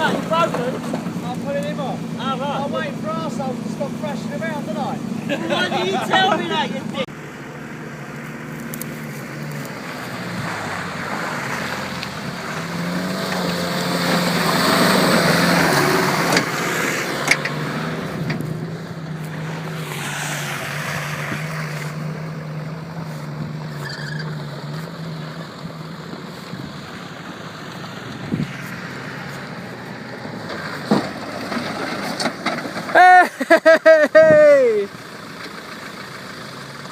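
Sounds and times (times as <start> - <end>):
engine running under load: 0.0 - 36.9.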